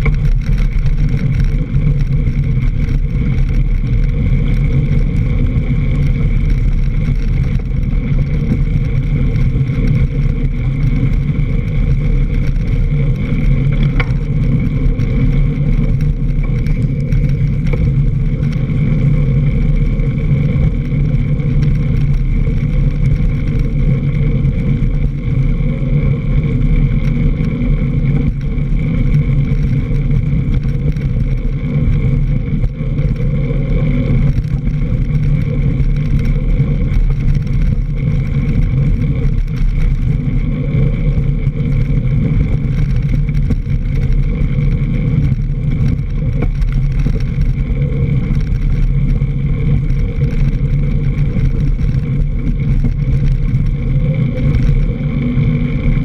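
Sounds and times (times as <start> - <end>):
bike rattling over dirt trail: 0.0 - 56.0
wind noise on microphone: 0.0 - 56.0.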